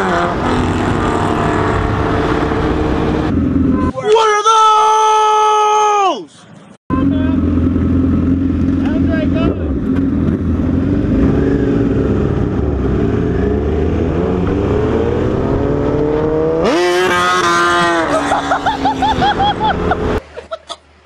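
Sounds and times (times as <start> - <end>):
motorcycle engine accelerating: 0.0 - 3.9, 6.9 - 20.2.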